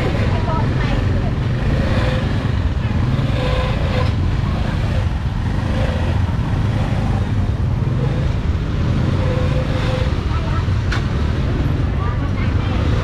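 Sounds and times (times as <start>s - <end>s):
crowded street market noise: 0.0s - 13.0s
motorbike engines rumbling: 0.0s - 13.0s.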